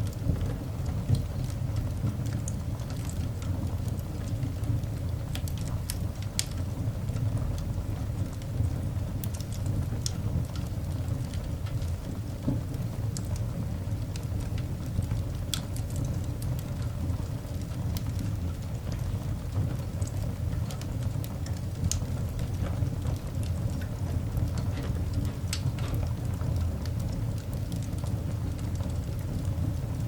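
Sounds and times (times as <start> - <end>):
coal fire crackles and pops: 0.0 - 30.0.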